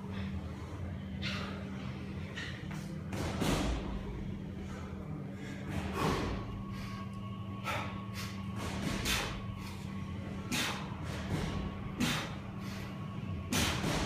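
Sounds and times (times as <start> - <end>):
man breathing forcefully: 0.0 - 2.4, 3.1 - 14.0.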